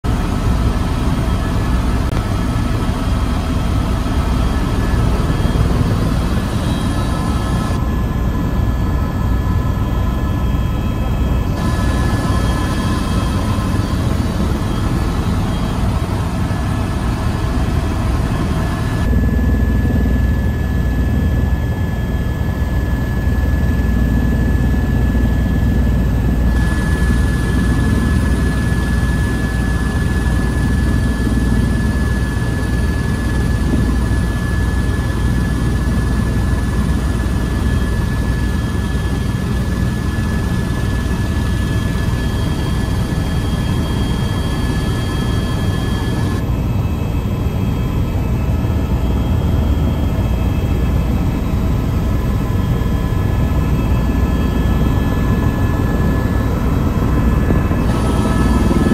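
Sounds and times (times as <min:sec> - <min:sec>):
helicopter engine and rotor drone: 0:00.0 - 0:58.9
high whine: 0:00.1 - 0:58.9.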